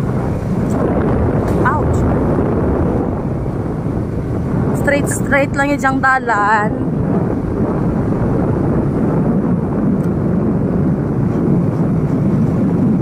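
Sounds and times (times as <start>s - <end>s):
motorcycle rumbling: 0.0s - 13.0s
wind on microphone: 0.0s - 13.0s.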